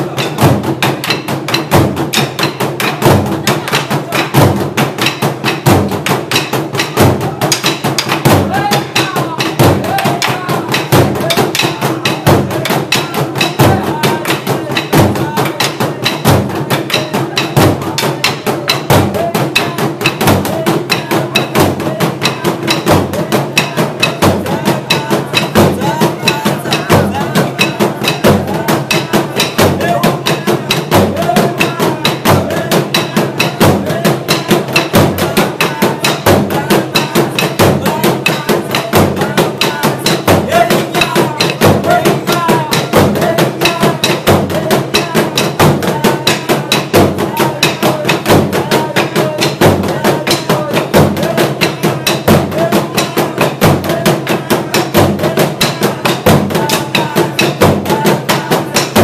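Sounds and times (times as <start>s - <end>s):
drum ensemble beating: 0.0s - 59.0s.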